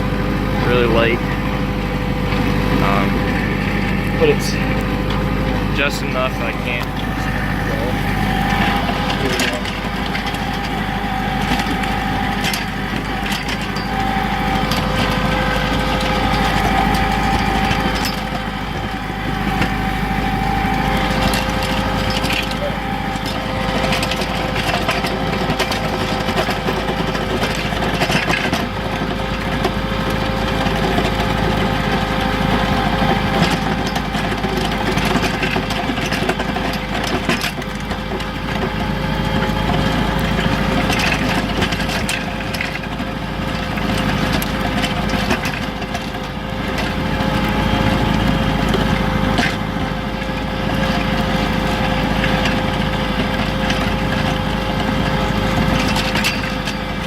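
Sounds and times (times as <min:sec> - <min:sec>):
constant whine: 0:00.0 - 0:57.0
tractor diesel engine running: 0:00.0 - 0:57.0.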